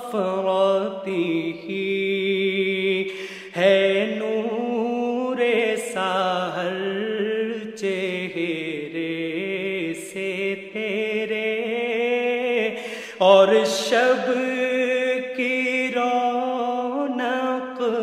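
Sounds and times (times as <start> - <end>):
person singing unaccompanied: 0.0 - 18.0.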